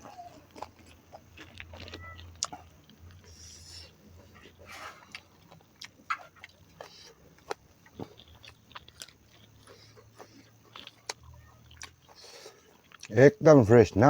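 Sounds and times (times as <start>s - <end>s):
person chewing: 0.0s - 13.2s
faint low hum: 0.0s - 14.0s.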